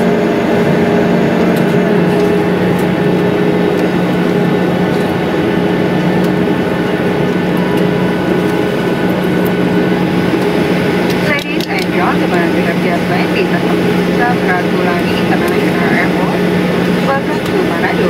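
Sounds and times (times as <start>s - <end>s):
aircraft cabin drone: 0.0s - 18.0s
jet engines idling: 0.0s - 18.0s.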